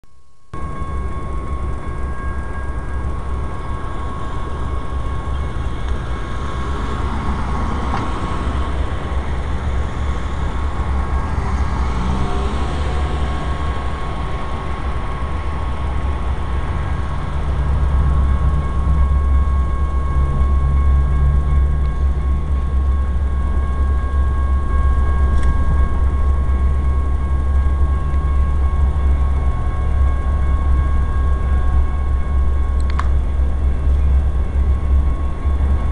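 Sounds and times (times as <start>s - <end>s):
crossing signal ringing: 0.5s - 35.9s
freight train rumbling: 0.6s - 35.9s.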